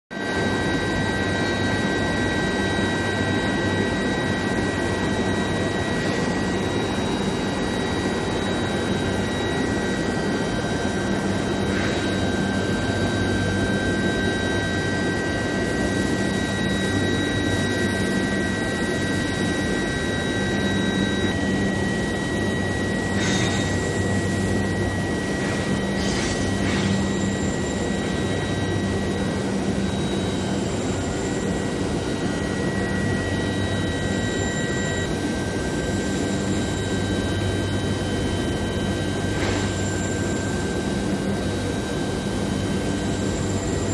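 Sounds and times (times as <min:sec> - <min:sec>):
high-pitched machine whines: 0:00.1 - 0:43.9.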